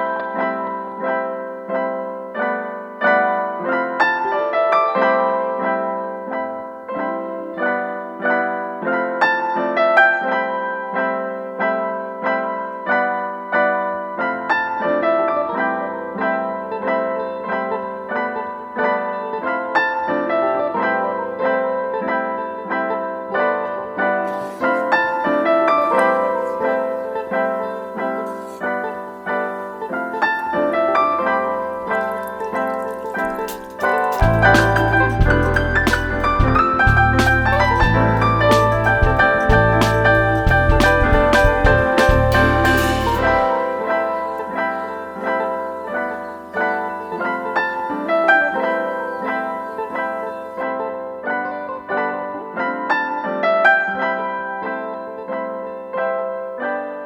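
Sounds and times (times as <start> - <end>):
gentle piano melody: 0.0 - 57.0.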